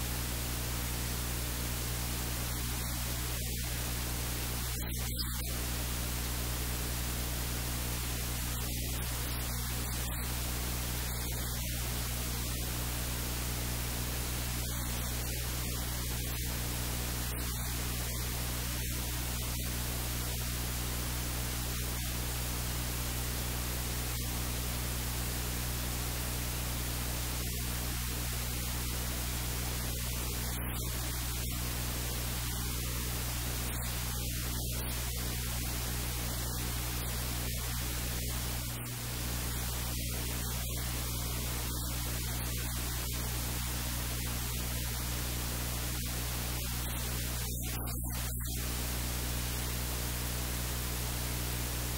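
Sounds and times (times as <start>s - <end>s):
low electrical hum: 0.0s - 51.9s
static-like hiss: 0.0s - 51.9s.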